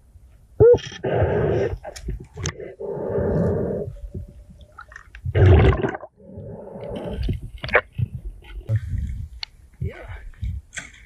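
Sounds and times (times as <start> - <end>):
muffled underwater rumbling: 0.7 - 10.2.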